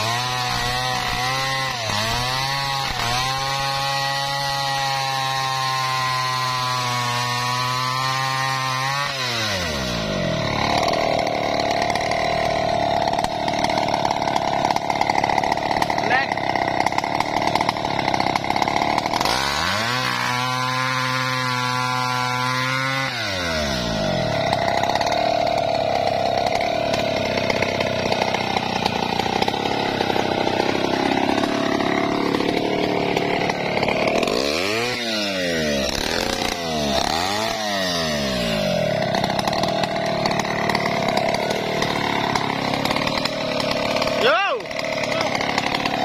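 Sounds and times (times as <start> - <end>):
chainsaw cutting wood: 0.0 - 46.0.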